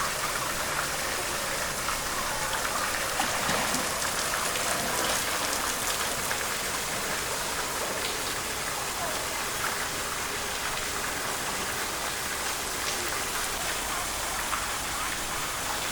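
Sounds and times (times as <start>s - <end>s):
rain pattering on hard surfaces: 0.0s - 15.9s.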